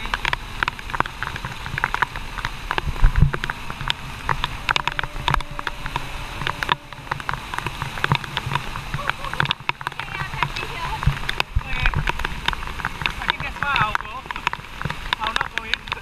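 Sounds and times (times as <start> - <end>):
water drops striking camera: 0.0 - 16.0
waterfall rushing: 0.0 - 16.0.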